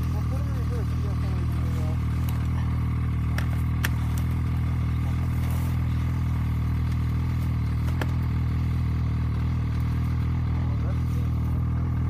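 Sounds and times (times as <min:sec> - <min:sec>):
snowmobile engine idling: 0:00.0 - 0:12.0.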